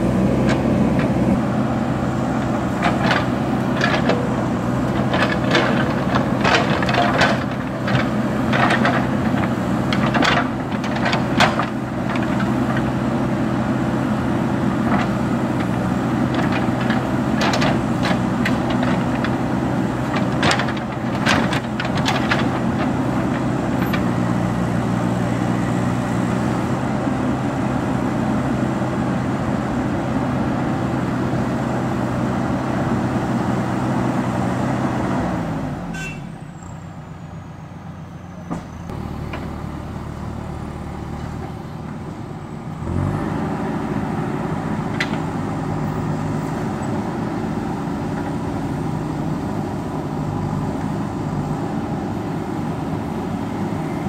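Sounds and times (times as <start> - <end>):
diesel engine working under load: 0.0 - 54.0.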